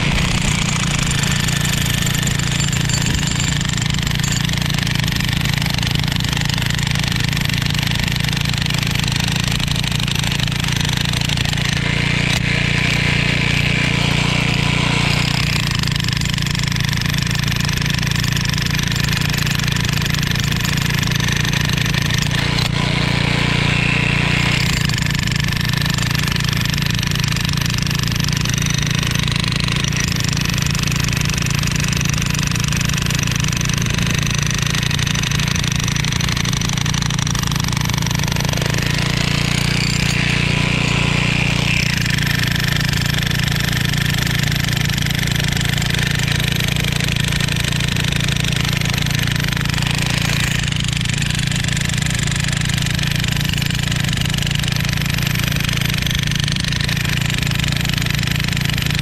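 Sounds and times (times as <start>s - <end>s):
electric jackhammer breaking concrete: 0.0s - 59.0s.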